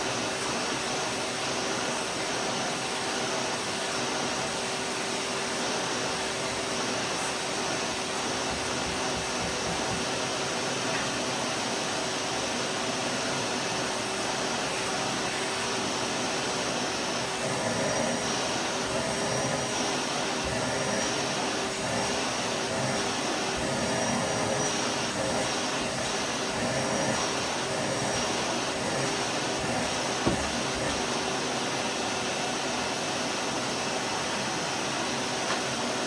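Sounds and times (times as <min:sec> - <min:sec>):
vacuum cleaner running: 0:00.0 - 0:36.0.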